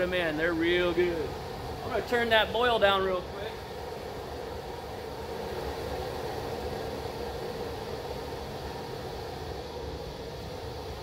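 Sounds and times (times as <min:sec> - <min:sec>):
liquid at rolling boil: 0:00.0 - 0:11.0
propane burner rushing: 0:00.0 - 0:11.0.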